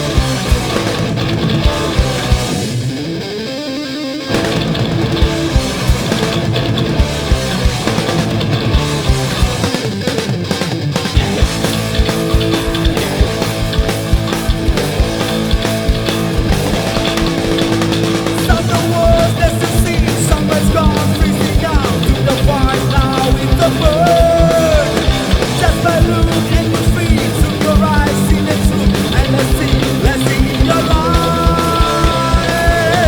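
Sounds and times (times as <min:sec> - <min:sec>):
fast drumming: 0:00.0 - 0:02.8, 0:04.3 - 0:33.0
heavy rock song: 0:00.0 - 0:33.0
lead guitar melody: 0:00.0 - 0:33.0.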